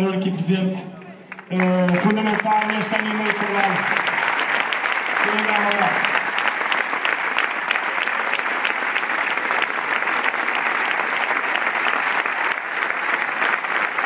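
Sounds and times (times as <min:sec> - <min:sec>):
crowd applauding: 0:01.0 - 0:14.0.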